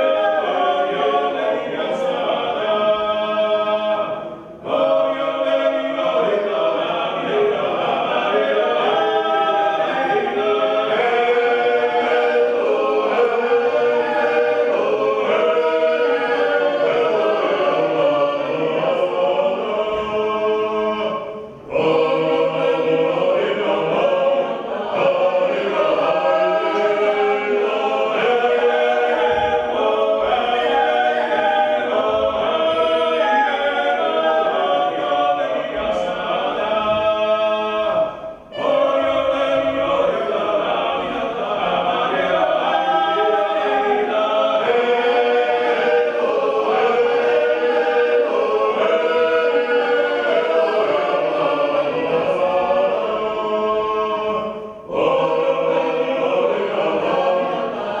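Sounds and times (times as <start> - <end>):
folk choir singing in harmony: 0.0 - 58.0.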